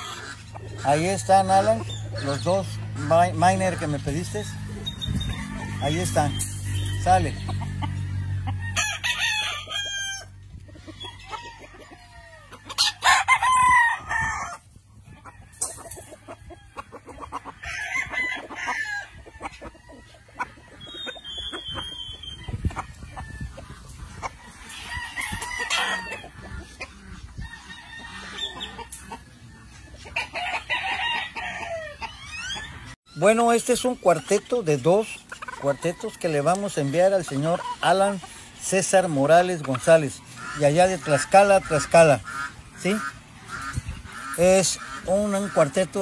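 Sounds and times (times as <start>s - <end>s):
chickens clucking: 0.0s - 46.0s
roosters crowing: 0.0s - 46.0s.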